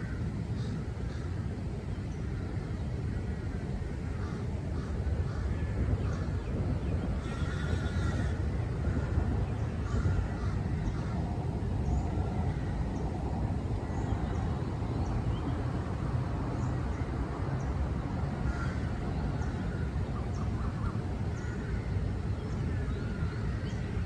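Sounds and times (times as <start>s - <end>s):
low traffic rumble: 0.0s - 24.0s
songbirds chirping: 0.0s - 24.0s.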